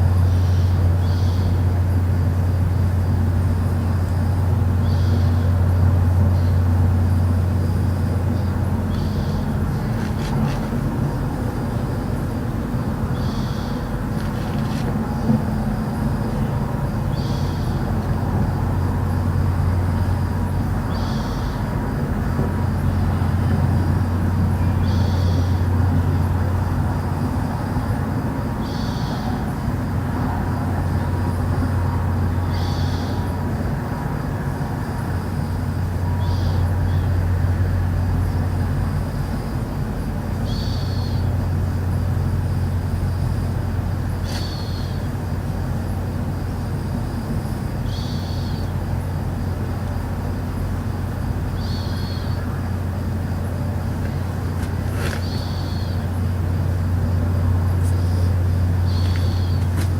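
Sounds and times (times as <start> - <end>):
low droning hum: 0.0 - 59.9.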